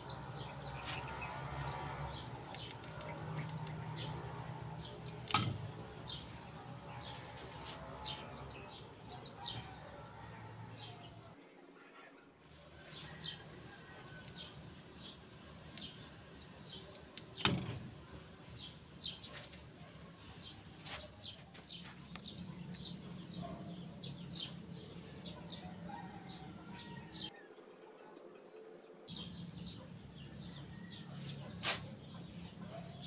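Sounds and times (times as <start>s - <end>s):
birds chirping: 0.0s - 11.4s, 12.5s - 27.3s, 29.1s - 33.0s.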